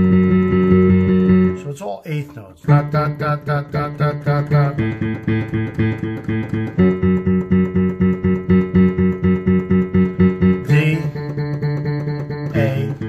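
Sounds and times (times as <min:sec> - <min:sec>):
digital piano chords: 0:00.0 - 0:02.0, 0:02.6 - 0:13.0.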